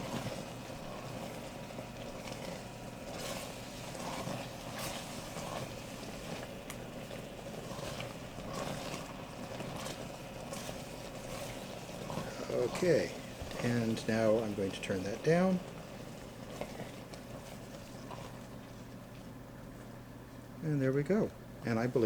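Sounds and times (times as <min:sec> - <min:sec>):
sauce bubbling in a pan: 0:00.0 - 0:20.6.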